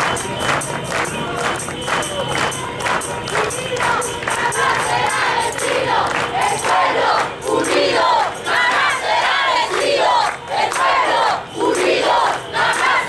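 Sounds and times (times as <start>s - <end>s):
crowd chanting: 0.0s - 13.0s.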